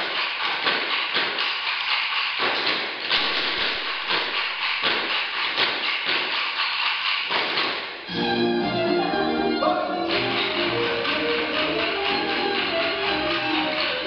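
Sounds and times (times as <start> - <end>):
sticks striking the floor: 0.0 - 8.0, 10.0 - 14.0.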